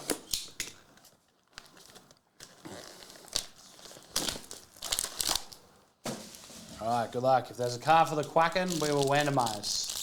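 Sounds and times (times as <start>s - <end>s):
plastic wrap crinkling: 1.0s - 10.0s.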